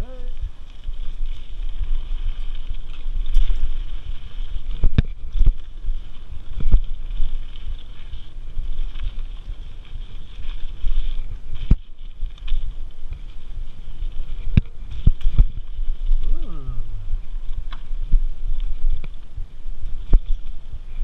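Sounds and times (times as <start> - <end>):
bike tyres rumbling on dirt: 0.0 - 21.0
wind on microphone: 0.0 - 21.0.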